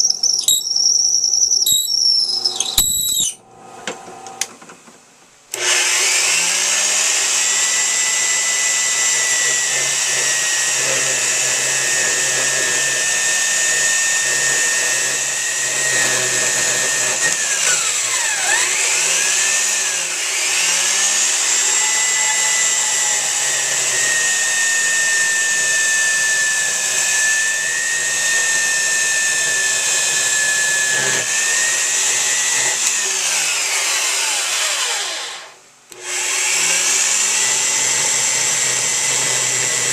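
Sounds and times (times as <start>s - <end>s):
power tool motor whining: 0.0s - 3.4s, 5.6s - 39.9s.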